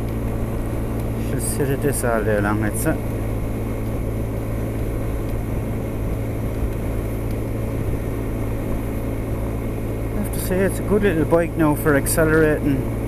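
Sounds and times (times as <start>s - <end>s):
road noise: 0.0s - 13.0s
rushing wind: 0.0s - 13.0s
scooter engine cruising: 0.0s - 13.0s.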